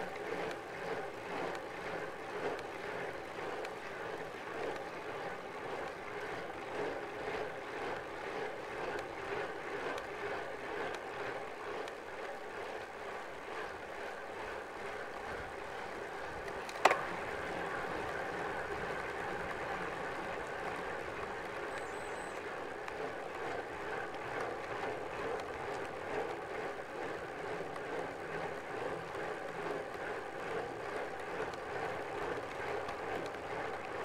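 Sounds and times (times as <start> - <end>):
bicycle tyre noise: 0.0 - 34.0.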